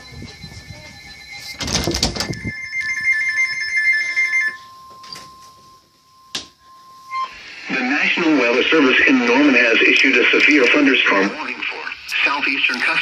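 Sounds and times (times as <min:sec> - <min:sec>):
steady warning tone: 0:00.0 - 0:13.0.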